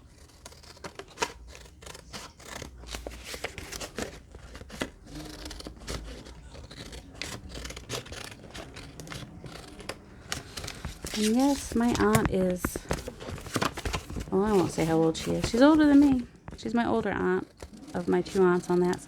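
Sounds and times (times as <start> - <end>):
scissors snipping paper: 0.0 - 19.0.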